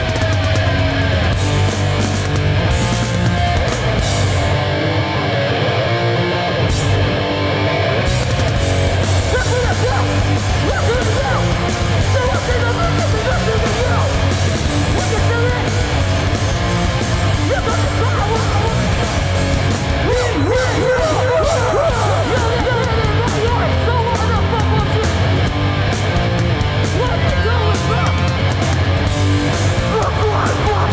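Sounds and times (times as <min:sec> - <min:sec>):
punk band playing live: 0:00.0 - 0:30.9.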